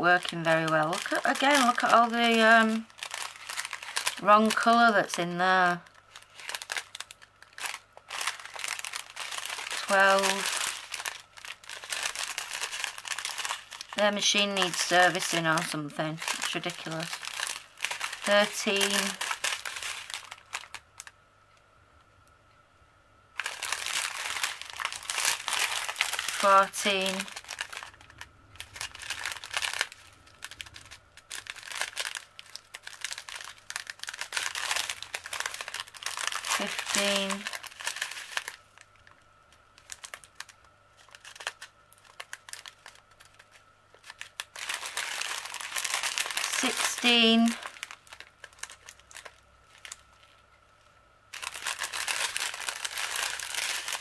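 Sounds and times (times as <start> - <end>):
plastic bag crinkling: 0.0 - 21.2, 23.4 - 54.0.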